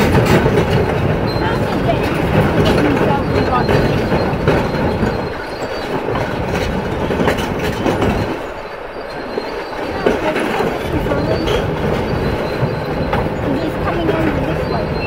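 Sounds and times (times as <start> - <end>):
metallic knocks: 0.0 - 15.0
steel tracks clanking and squealing: 0.0 - 15.0.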